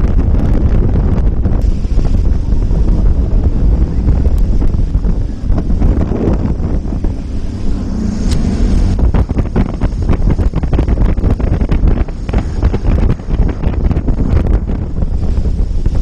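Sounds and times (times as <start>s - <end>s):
jet boat running: 0.0s - 16.0s
wind buffeting microphone: 0.0s - 16.0s.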